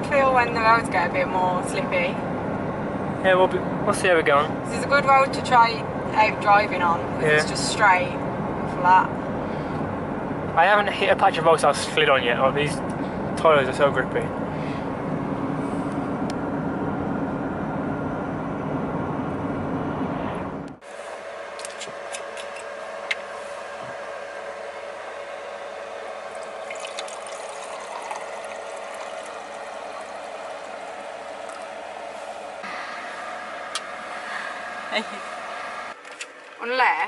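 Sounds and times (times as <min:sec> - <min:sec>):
road and engine rumble: 0:00.0 - 0:37.0.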